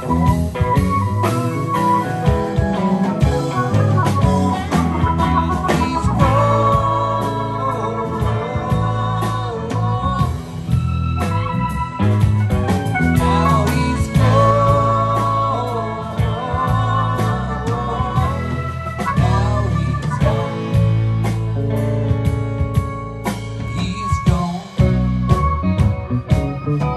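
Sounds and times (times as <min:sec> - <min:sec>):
electric organ chords: 0:00.0 - 0:26.9
live rock band playing: 0:00.0 - 0:26.9.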